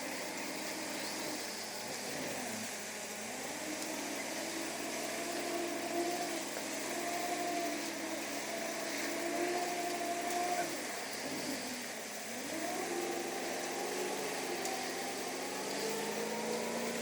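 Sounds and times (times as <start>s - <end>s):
machinery engine running: 0.0s - 17.0s.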